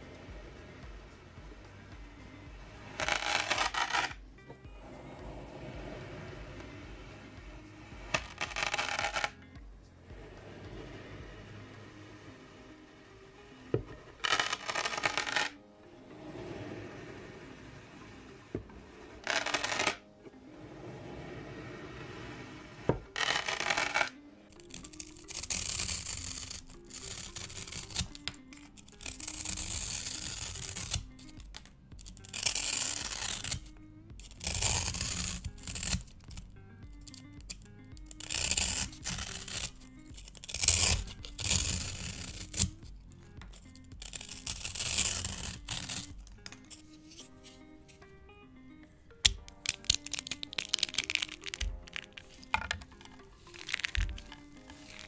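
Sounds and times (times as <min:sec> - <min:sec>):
blade cutting foam: 0:00.0 - 0:47.6, 0:49.2 - 0:55.0
soft background music: 0:00.0 - 0:55.0.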